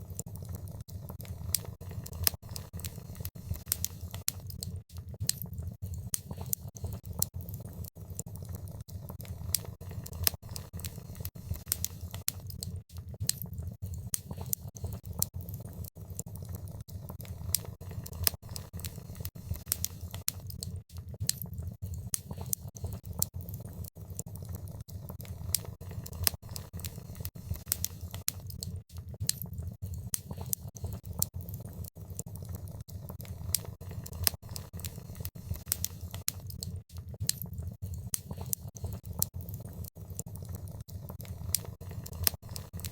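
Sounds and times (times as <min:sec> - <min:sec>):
low rumble of fire: 0:00.0 - 0:42.9
wood fire pops and snaps: 0:00.1 - 0:42.9.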